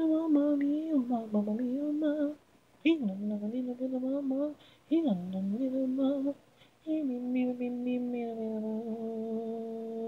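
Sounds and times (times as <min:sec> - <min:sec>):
person singing a cappella: 0:00.0 - 0:10.0.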